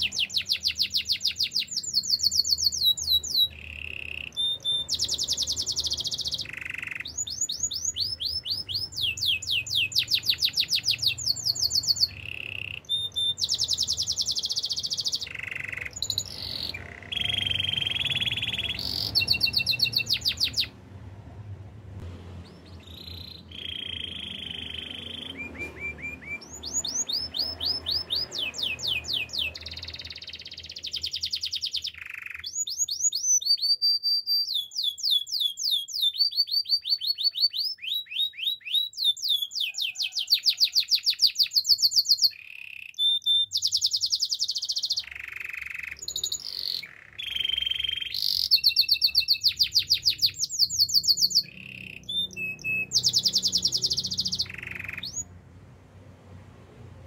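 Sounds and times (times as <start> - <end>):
canary singing trills: 0.0 - 20.8, 22.4 - 55.4.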